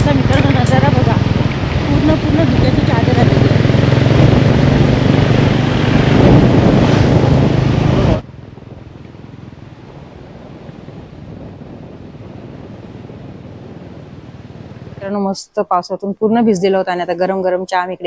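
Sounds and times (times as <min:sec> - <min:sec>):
motorcycle engine hum: 0:00.0 - 0:15.3
wind blasting microphone: 0:00.0 - 0:18.0.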